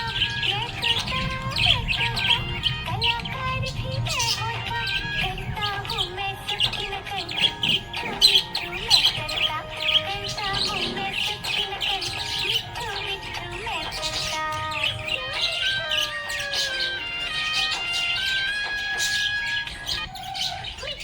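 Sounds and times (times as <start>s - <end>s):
budgerigars chirping and warbling: 0.0s - 21.0s.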